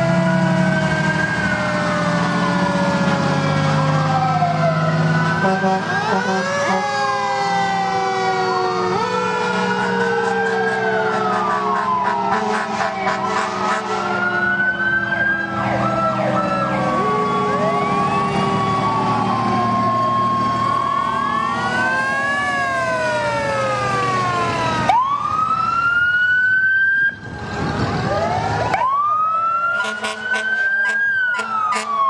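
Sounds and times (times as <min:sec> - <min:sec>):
fire truck sirens wailing: 0:00.0 - 0:32.0
truck engine hum: 0:00.0 - 0:32.0.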